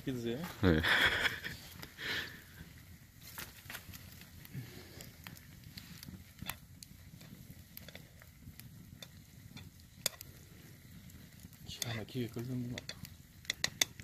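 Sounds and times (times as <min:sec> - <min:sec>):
campfire crackling: 0:00.0 - 0:14.0
water boiling in a pan: 0:00.0 - 0:14.0.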